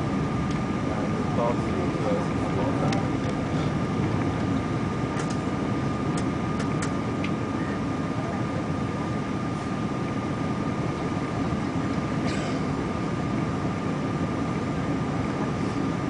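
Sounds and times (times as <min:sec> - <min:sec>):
airliner cabin roar: 0:00.0 - 0:16.0
thin steady whine: 0:00.0 - 0:16.0.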